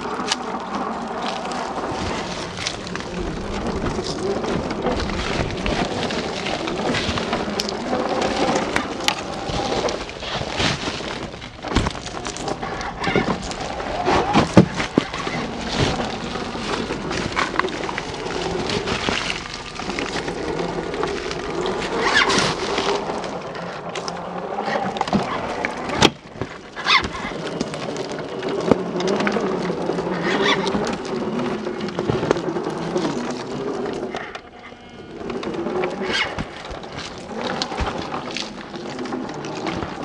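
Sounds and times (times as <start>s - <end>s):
tyres crackling on dirt and twigs: 0.0s - 40.0s.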